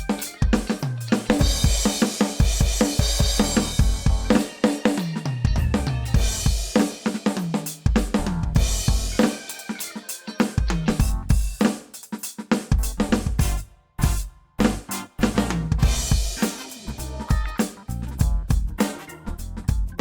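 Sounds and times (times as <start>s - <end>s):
backing track with bass line: 0.0s - 6.7s, 7.9s - 9.4s, 10.6s - 11.6s, 12.7s - 20.0s
electronic drum kit funk groove: 0.0s - 20.0s.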